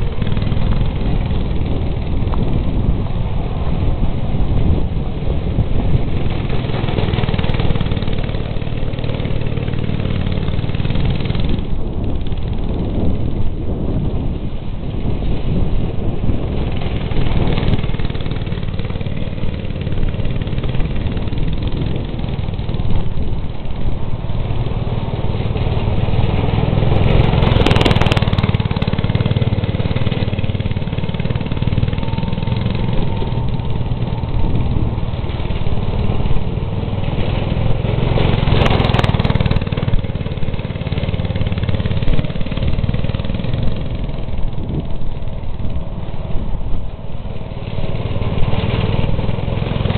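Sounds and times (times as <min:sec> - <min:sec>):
go-kart engine running: 0:00.0 - 0:49.9.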